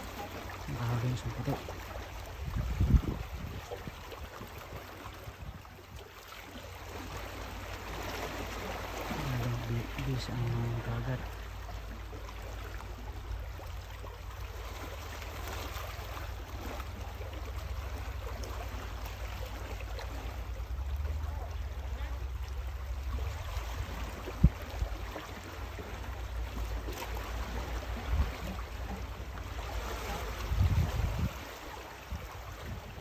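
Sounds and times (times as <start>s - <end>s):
water lapping: 0.0s - 33.0s
wind: 0.0s - 33.0s.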